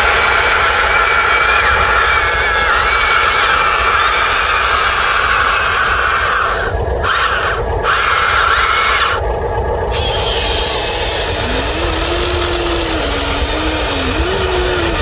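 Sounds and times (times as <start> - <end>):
small electric motors whining: 0.0 - 9.3, 9.9 - 15.0.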